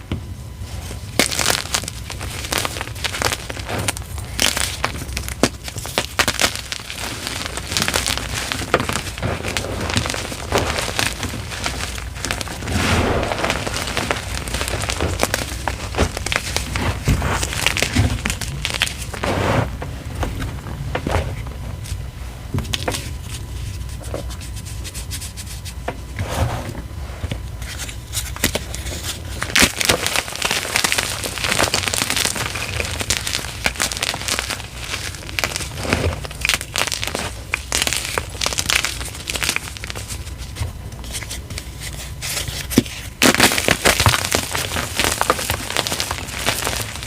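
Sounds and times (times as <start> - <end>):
chalk crumbled and crushed by hand: 0.7 - 22.0, 27.6 - 47.0.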